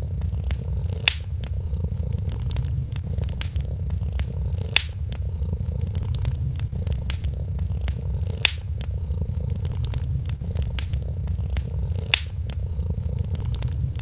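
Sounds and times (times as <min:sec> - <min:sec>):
cat purring: 0:00.0 - 0:14.0
wood fire crackling and popping: 0:00.0 - 0:14.0.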